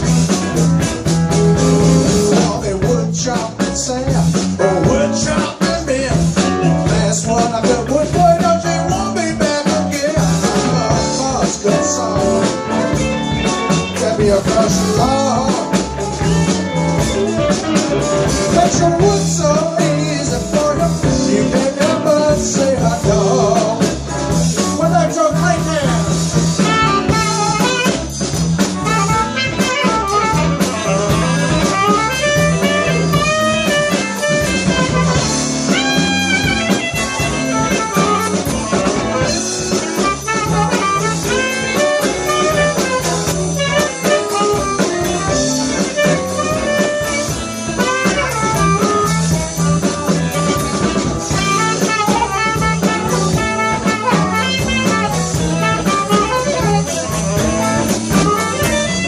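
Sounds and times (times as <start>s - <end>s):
blues band playing: 0.0s - 59.0s
saxophone lead lines: 8.3s - 59.0s.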